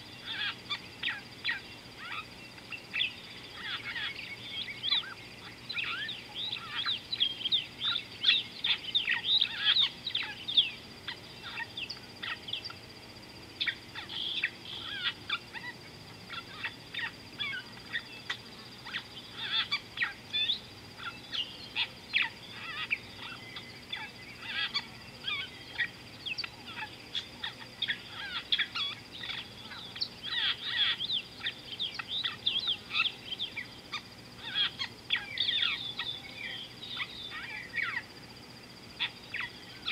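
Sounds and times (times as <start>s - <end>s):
chorus of birds calling: 0.0s - 39.9s.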